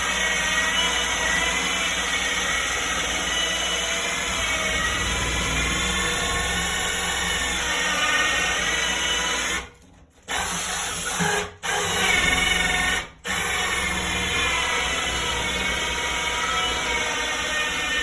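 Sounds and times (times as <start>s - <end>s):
drill hole saw cutting wood: 0.0s - 9.7s, 10.3s - 18.0s.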